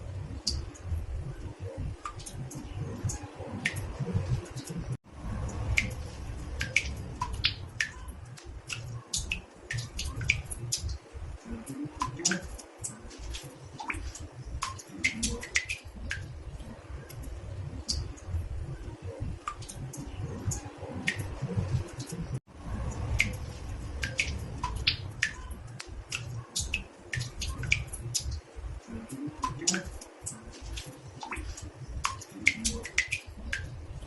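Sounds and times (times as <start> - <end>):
water drips plinking in bathtub: 0.0 - 34.0.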